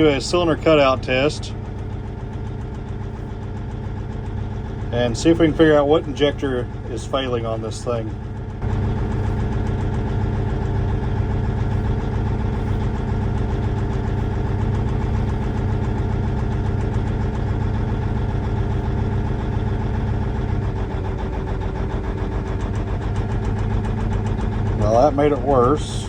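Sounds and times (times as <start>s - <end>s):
diesel tractor engine idling rough: 0.0s - 26.0s.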